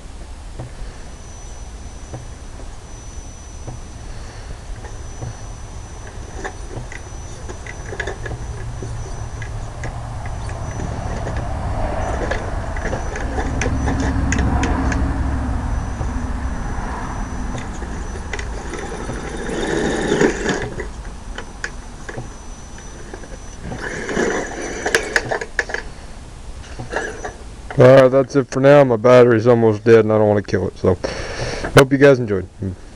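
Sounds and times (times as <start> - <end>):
rc car motor whine: 0.5 - 28.0.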